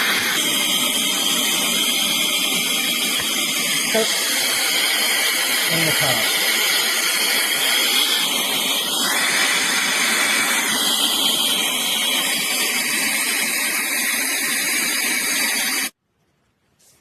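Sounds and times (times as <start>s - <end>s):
air duster rushing air: 0.0s - 16.0s
high motor whine: 0.0s - 16.0s.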